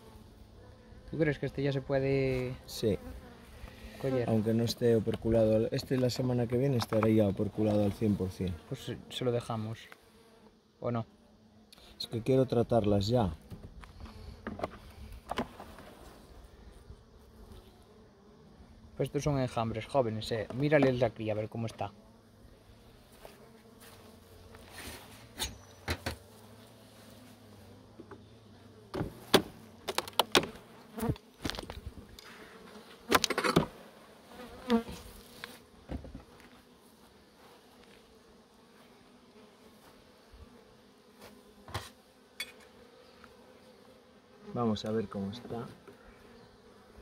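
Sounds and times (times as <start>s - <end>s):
bees buzzing: 0.0s - 47.0s.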